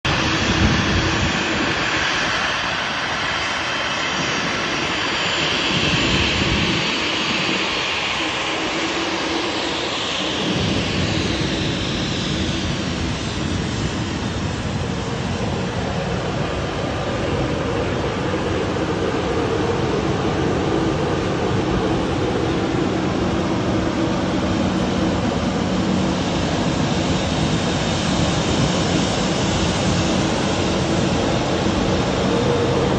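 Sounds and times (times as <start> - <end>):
jet engines rushing: 0.0 - 32.9.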